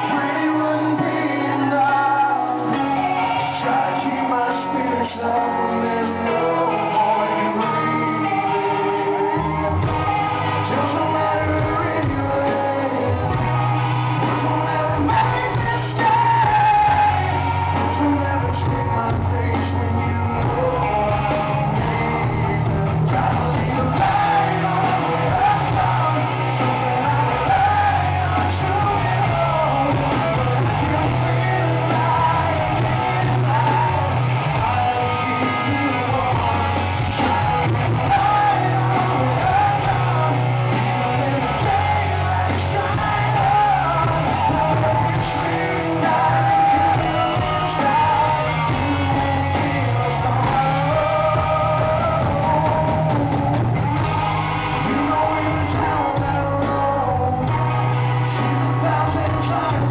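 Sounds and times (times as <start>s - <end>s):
crowd yelling: 0.0s - 59.9s
live rock band: 0.0s - 59.9s
man singing: 0.0s - 59.9s.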